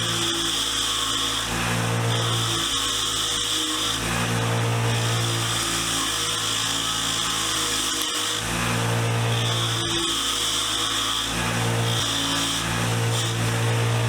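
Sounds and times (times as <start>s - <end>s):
wire wheel motor hum: 0.0s - 14.0s.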